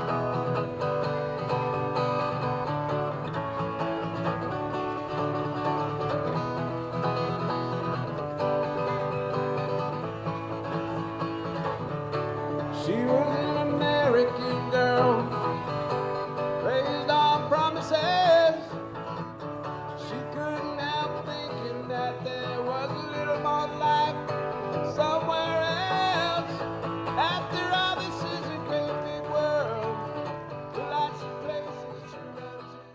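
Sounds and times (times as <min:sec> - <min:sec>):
acoustic bluegrass music: 0:00.0 - 0:32.9.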